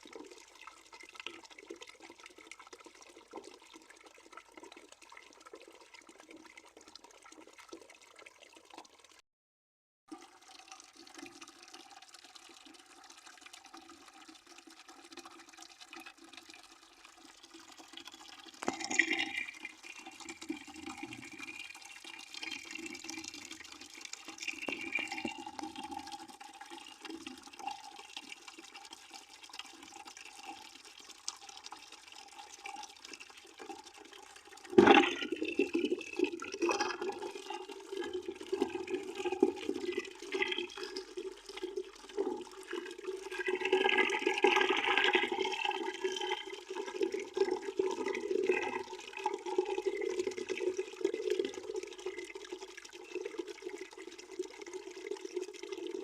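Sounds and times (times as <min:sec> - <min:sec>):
water running into a bucket: 0:00.0 - 0:09.2, 0:10.1 - 0:56.0.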